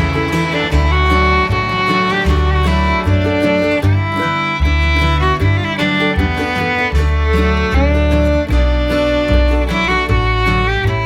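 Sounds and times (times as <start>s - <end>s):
instrumental music with violin and guitar: 0.0s - 11.0s.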